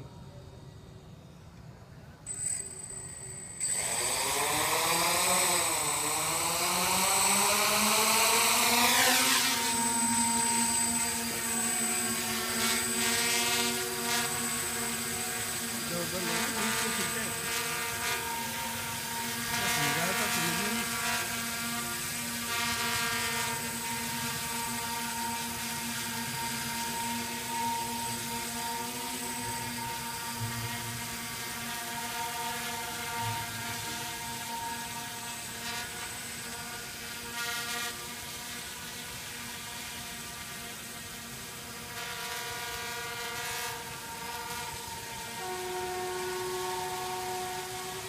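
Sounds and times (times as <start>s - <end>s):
drone propellers whirring: 0.0s - 48.0s.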